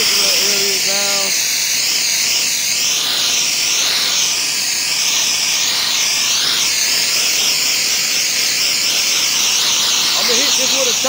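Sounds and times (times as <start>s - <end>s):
pressure washer spraying concrete: 0.0s - 11.0s.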